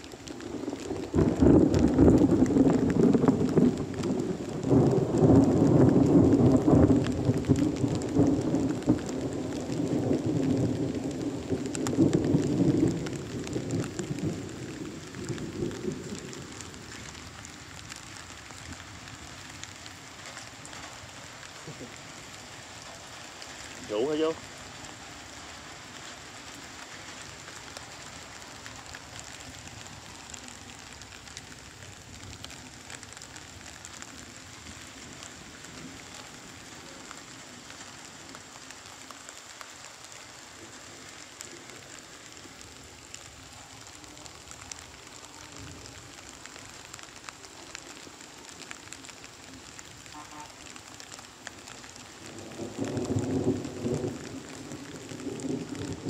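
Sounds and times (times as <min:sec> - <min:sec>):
heavy rain on wet ground: 0:00.0 - 0:56.0
raindrops ticking: 0:00.0 - 0:56.0.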